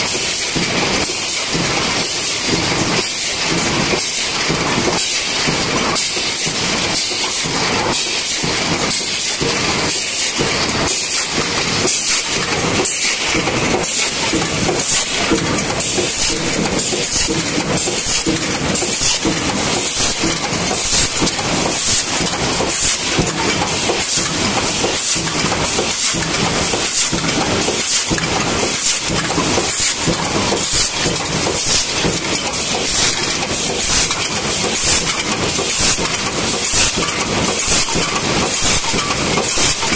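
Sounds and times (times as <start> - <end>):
continuous machine noise: 0.0 - 39.9.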